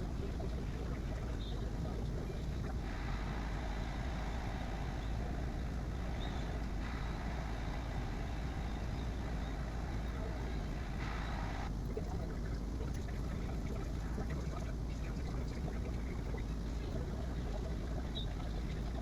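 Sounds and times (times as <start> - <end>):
printer fans and motors whirring: 0.0 - 19.0.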